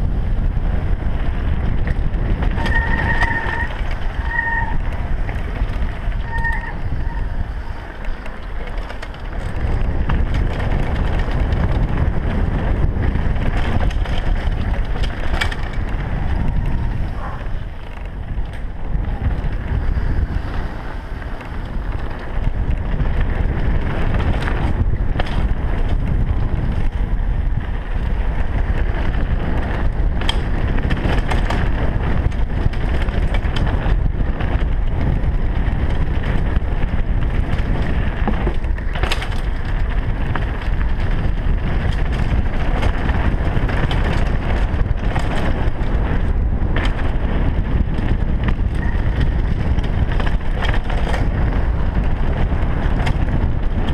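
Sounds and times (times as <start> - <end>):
wind buffeting microphone: 0.0 - 53.9
bike knocking over bumps: 0.4 - 53.9.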